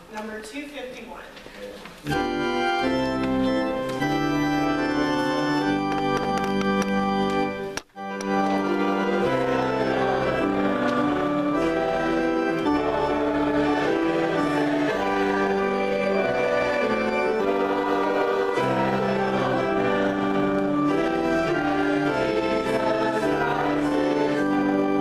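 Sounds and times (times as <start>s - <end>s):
church organ playing sustained chords: 2.1s - 25.0s.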